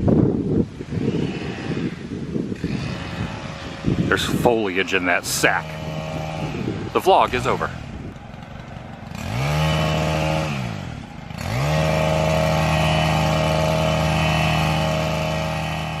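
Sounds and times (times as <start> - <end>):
small engine revving: 0.1 - 16.0.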